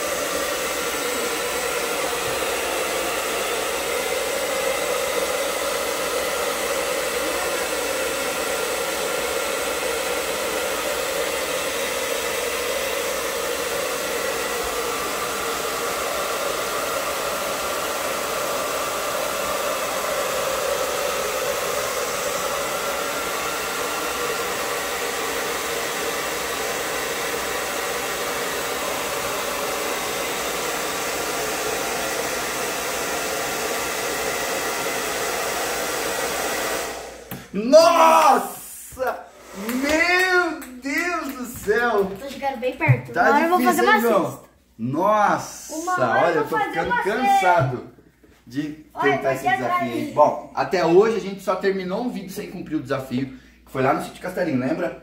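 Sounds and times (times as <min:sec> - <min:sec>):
hair dryer running: 0:00.0 - 0:44.4, 0:45.6 - 0:47.9, 0:48.9 - 0:51.2.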